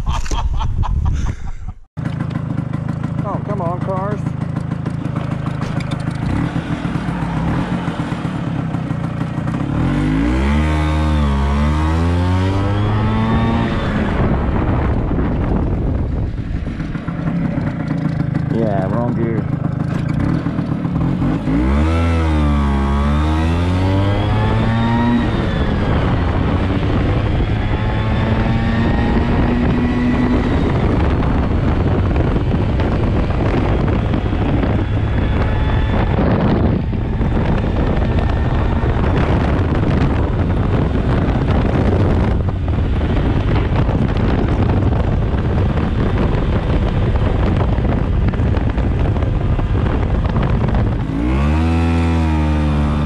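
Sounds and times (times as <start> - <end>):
wind noise on microphone: 0.0 - 1.9, 5.4 - 53.0
scooter engine accelerating: 2.0 - 53.0.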